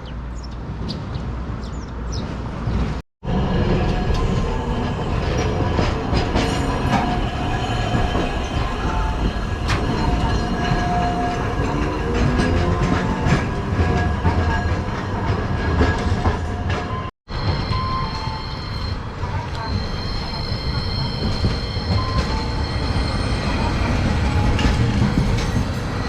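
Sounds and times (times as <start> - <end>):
tram wheels rumbling: 0.6 - 26.0.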